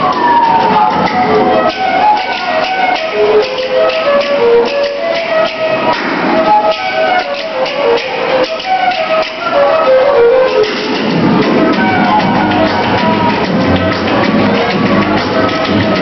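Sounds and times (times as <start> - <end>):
music with dense percussion: 0.0 - 16.0.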